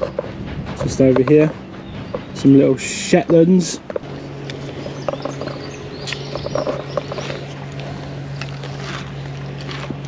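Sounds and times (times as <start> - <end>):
low engine-like hum: 0.0 - 10.0
ponies chewing grass: 0.0 - 10.0.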